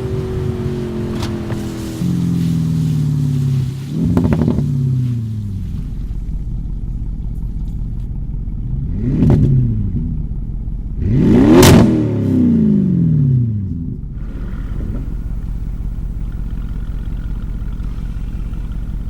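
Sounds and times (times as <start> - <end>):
engine revving: 0.0 - 6.2, 8.7 - 19.0
car engine low drone: 0.0 - 19.0
exhaust crack: 0.0 - 19.0.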